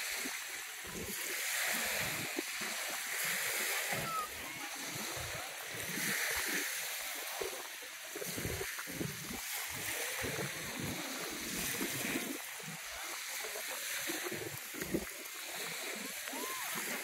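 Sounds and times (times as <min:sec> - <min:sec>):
small waves lapping at shore: 0:00.0 - 0:17.0.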